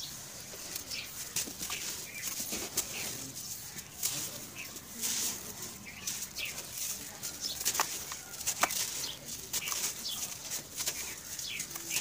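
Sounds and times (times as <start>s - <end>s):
hands crushing gritty chunks: 0.7s - 12.0s
sharp crunches: 0.8s - 12.0s.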